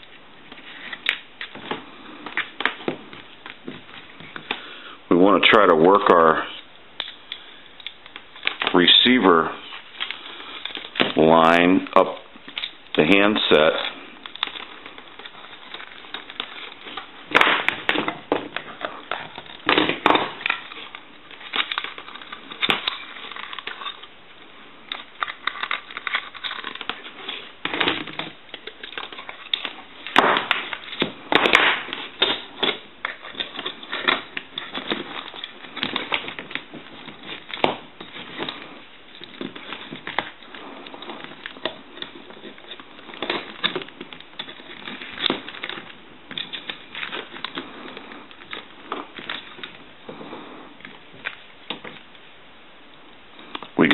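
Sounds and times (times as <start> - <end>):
rustling: 0.0 - 53.9.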